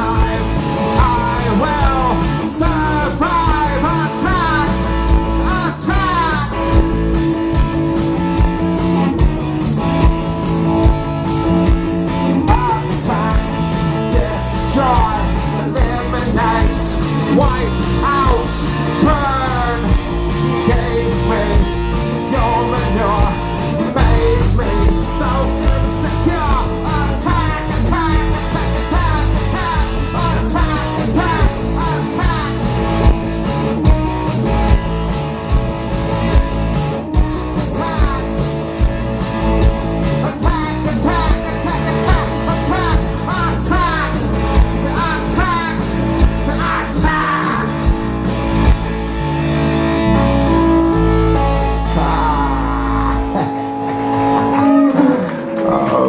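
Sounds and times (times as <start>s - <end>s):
bending lead guitar lines: 0.0s - 56.0s
rock band playing live: 0.0s - 56.0s.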